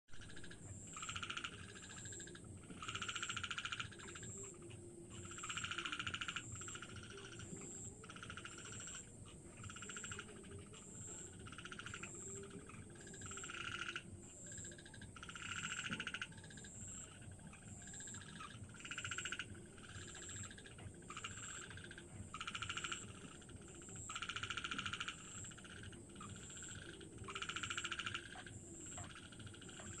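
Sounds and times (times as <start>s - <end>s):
frogs calling in pulsed trills: 0.2s - 30.0s.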